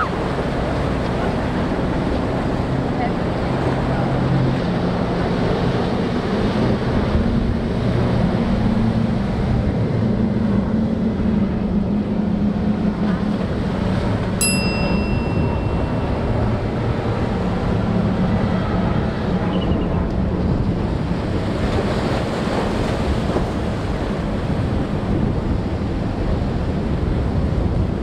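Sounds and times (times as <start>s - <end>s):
boat engines droning: 0.0s - 28.0s
wind on microphone: 0.0s - 28.0s.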